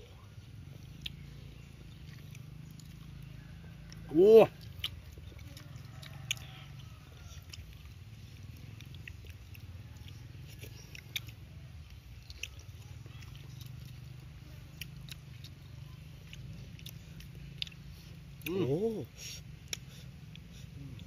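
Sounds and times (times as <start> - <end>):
low steady hum: 0.0 - 21.0
person chewing and smacking lips: 0.0 - 21.0
sharp wet clicks: 0.5 - 21.0.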